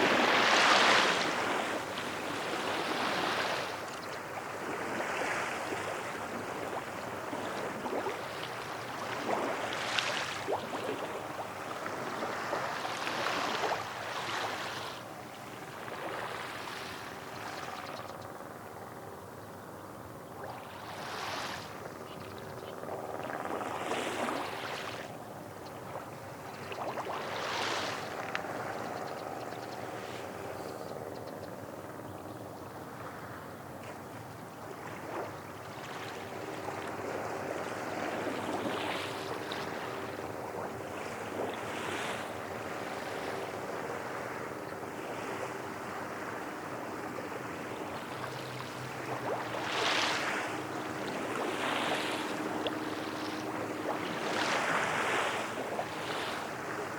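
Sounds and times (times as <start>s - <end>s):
small waves washing on shore: 0.0s - 18.4s, 20.3s - 31.1s, 32.8s - 56.9s
distant engine drone: 0.0s - 56.9s.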